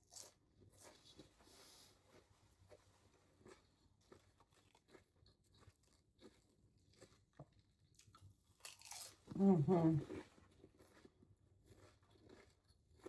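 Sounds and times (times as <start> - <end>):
chewing soft food: 0.0 - 13.0.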